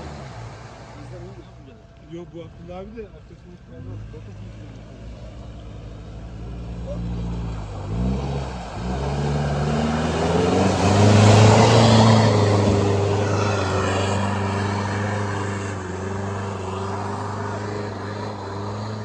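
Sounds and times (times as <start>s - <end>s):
truck engine accelerating: 0.0s - 19.0s
tyres splashing through mud: 3.2s - 19.0s.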